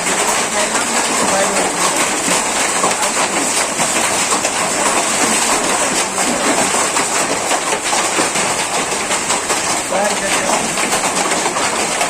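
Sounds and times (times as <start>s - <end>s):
hail and heavy rain: 0.0s - 12.0s.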